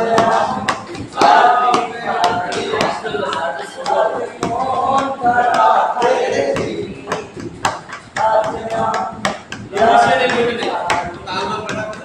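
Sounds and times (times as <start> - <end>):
sharp knocks: 0.0 - 12.0.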